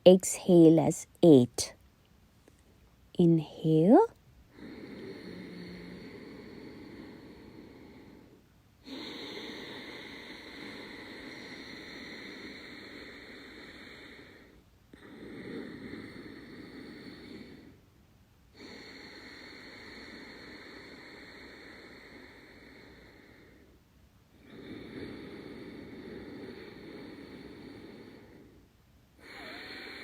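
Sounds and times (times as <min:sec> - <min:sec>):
slow hissing breathing: 0:04.5 - 0:17.9, 0:18.5 - 0:30.0.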